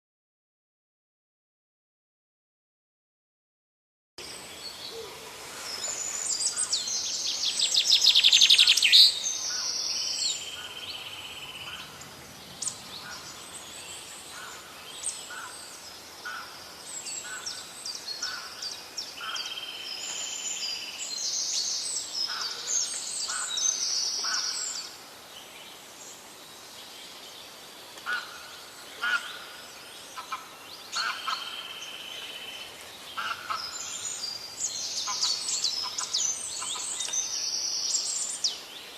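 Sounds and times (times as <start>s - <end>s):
songbirds singing: 4.2s - 38.9s.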